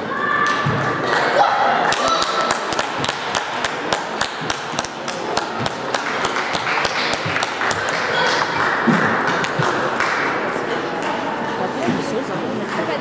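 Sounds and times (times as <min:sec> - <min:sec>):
murmur of a large hall: 0:00.0 - 0:13.0.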